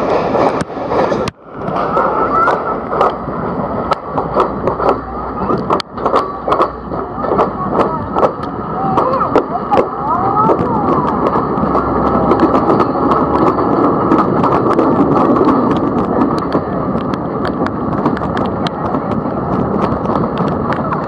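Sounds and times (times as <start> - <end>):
train coaches rumbling and rattling: 0.0 - 21.0
wheels and couplings clacking: 0.0 - 21.0.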